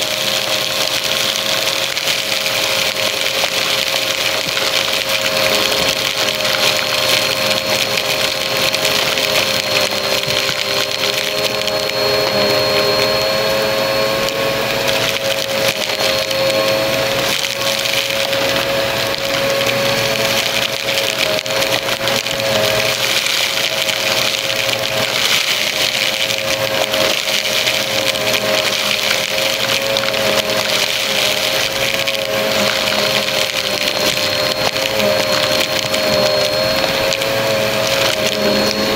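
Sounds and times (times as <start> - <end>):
confetti crackling up vacuum: 0.0 - 38.9
vacuum cleaner motor whine: 0.0 - 38.9.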